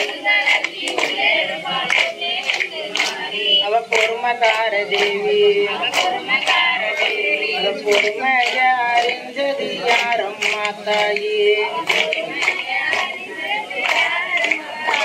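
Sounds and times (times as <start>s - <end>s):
folk song singing: 0.0s - 15.0s
sharp hand claps: 0.0s - 15.0s.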